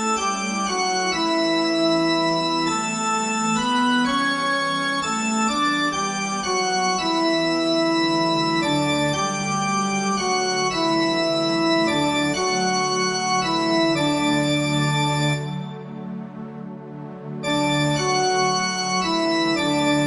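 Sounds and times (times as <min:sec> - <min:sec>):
organ-like keyboard music: 0:00.0 - 0:20.0.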